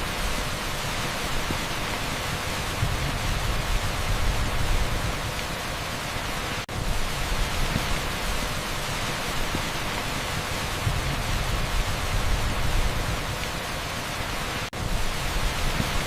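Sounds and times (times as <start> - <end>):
heavy rain on asphalt: 0.0 - 16.0
pink noise hiss: 0.0 - 16.0.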